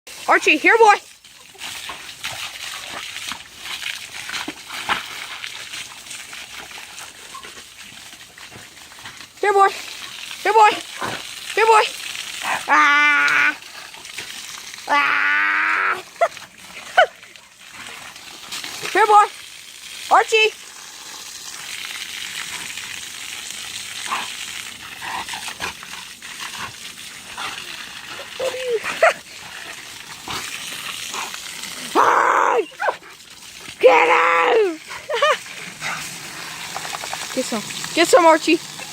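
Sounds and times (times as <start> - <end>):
sprayed water splattering: 0.1 - 38.9.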